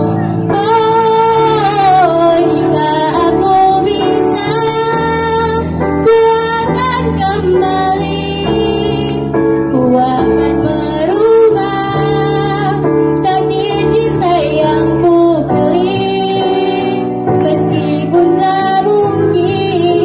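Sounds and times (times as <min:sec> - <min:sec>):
girl singing a pop song: 0:00.0 - 0:20.0
instrumental accompaniment: 0:00.0 - 0:20.0.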